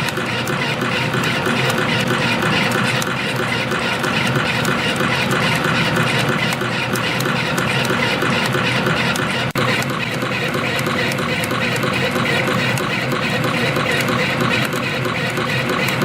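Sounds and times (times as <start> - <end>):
fast machine clicks: 0.0 - 16.0
spring coiling machine whirring: 0.0 - 16.0.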